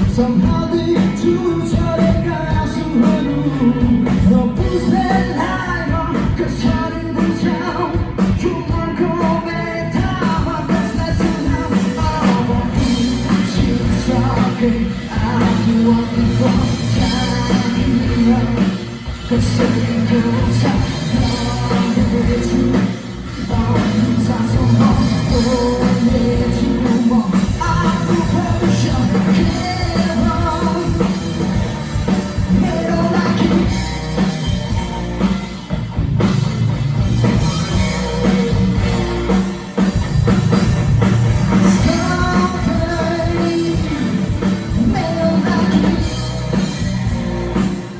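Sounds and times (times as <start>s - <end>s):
singer: 0.0s - 34.1s, 41.5s - 46.9s
drums: 0.0s - 47.9s
electric guitars: 0.0s - 47.9s.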